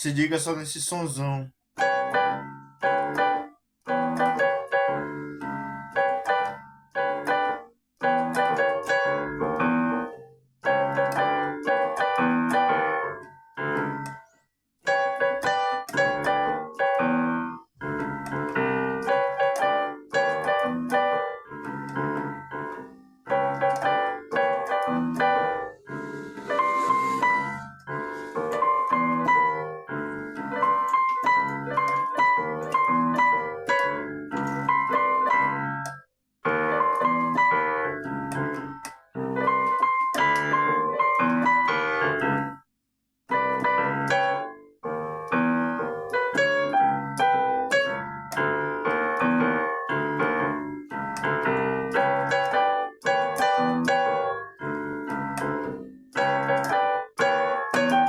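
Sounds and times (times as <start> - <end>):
electric piano chords and melody: 1.8 - 42.7, 43.3 - 58.0.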